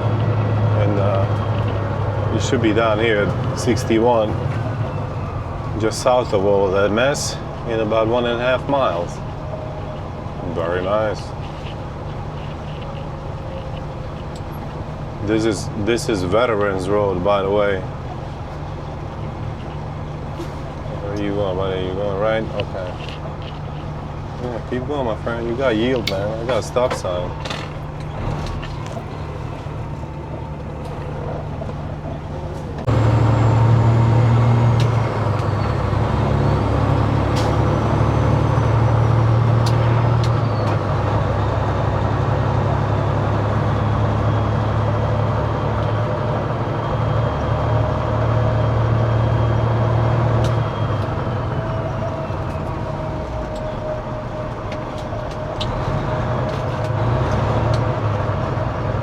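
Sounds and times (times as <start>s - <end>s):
diesel truck engine drone: 0.0s - 59.0s.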